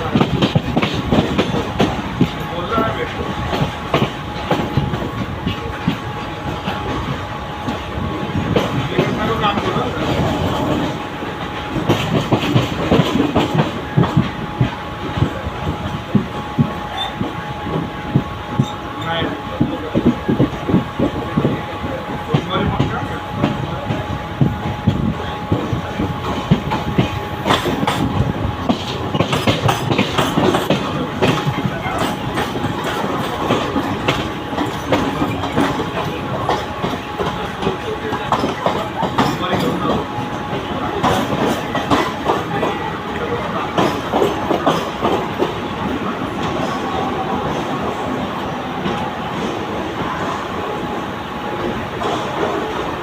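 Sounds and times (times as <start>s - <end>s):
wheels clacking over rail joints: 0.0s - 18.0s, 19.6s - 48.0s
train rumbling: 0.0s - 53.0s.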